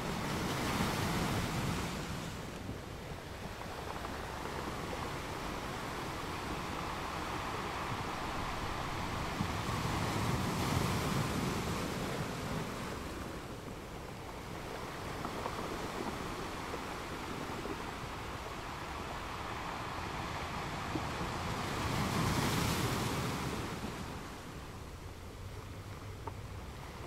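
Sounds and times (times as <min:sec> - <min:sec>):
sea waves washing in: 0:00.0 - 0:27.0.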